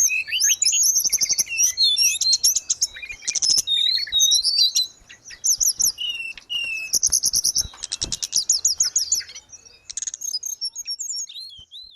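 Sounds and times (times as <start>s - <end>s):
bird singing fast varied song: 0.0s - 11.9s.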